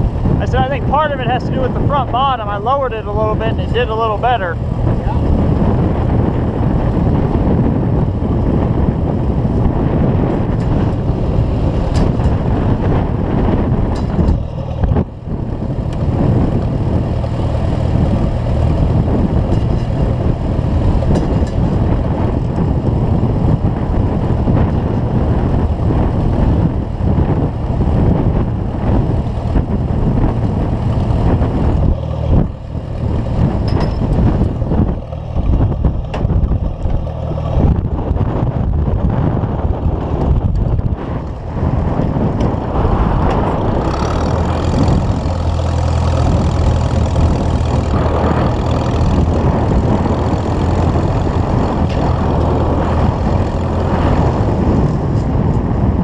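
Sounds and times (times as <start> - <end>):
tractor engine idling: 0.0 - 39.2, 39.9 - 55.6.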